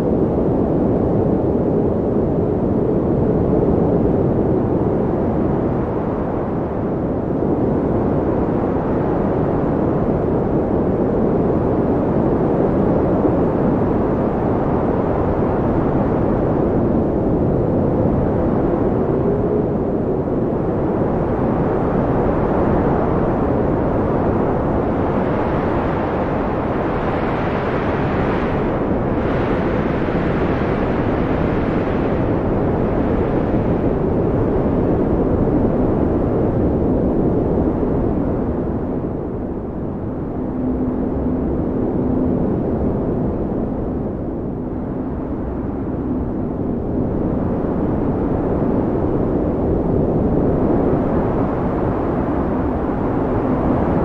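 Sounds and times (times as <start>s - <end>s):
strong blizzard wind: 0.0s - 54.0s.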